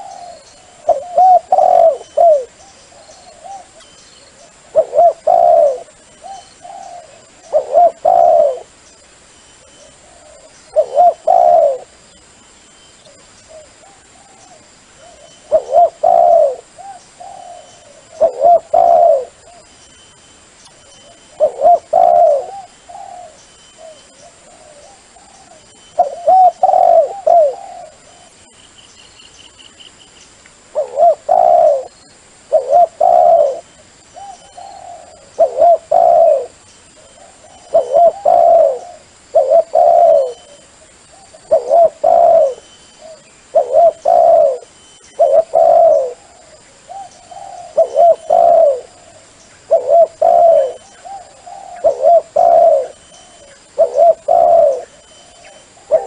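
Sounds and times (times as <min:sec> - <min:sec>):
dove cooing: 0:00.0 - 0:08.8, 0:09.6 - 0:12.0, 0:13.5 - 0:19.6, 0:21.0 - 0:28.5, 0:30.7 - 0:56.0.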